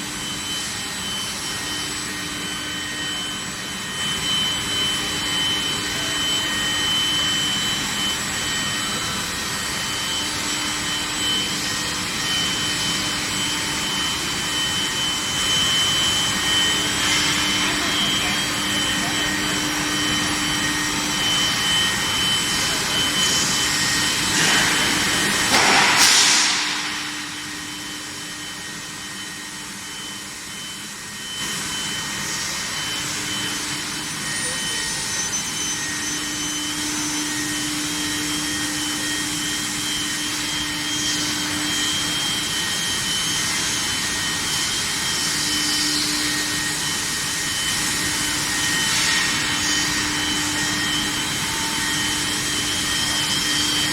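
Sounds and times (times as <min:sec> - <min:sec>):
machinery steady rushing noise: 0:00.0 - 0:53.9.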